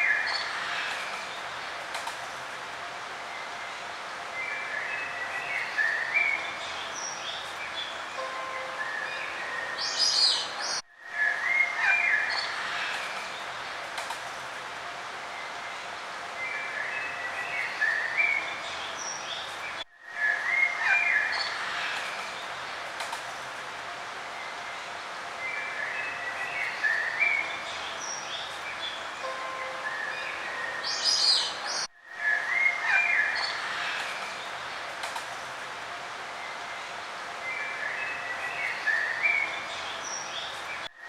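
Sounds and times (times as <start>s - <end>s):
outdoor background hiss: 0.0s - 41.0s
songbirds singing: 3.2s - 13.9s, 15.3s - 22.9s, 24.3s - 35.0s, 36.3s - 41.0s.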